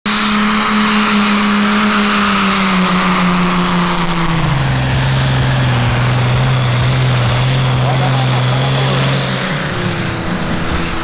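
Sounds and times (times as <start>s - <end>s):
tractor diesel engine at high revs: 0.0s - 11.0s.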